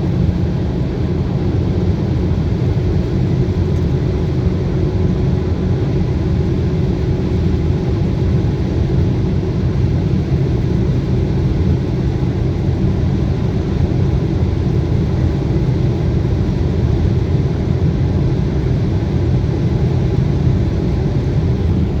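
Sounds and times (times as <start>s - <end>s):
car driving at high speed: 0.0s - 22.0s.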